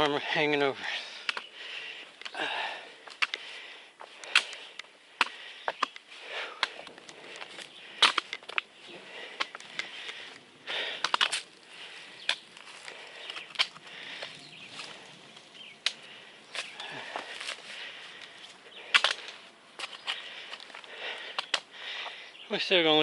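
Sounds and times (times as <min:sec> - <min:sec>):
footsteps on rocky trail: 0:00.0 - 0:22.6
person sniffing and breathing: 0:01.0 - 0:22.4.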